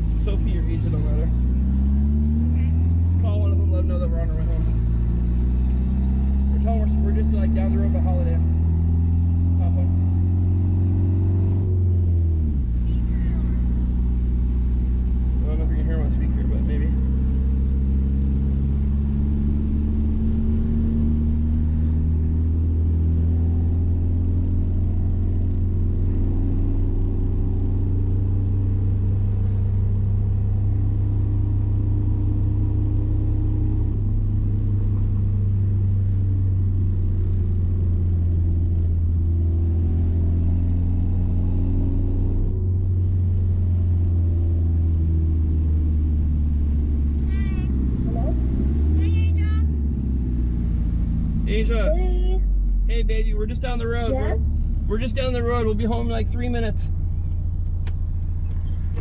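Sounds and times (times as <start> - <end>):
pickup engine rumbling: 0.0 - 59.0.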